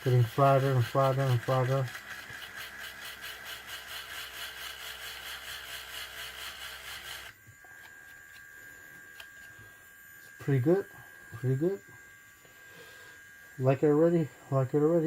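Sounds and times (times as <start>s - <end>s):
faint electric hum: 0.0s - 15.0s
power sander grinding: 0.0s - 15.0s.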